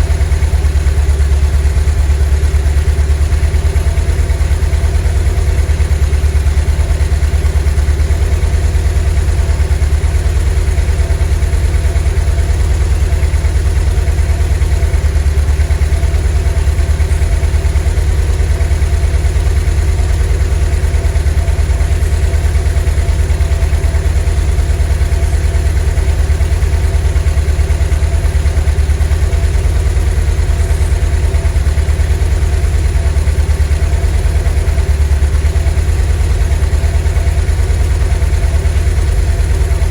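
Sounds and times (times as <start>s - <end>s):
van engine running steadily: 0.0s - 39.9s.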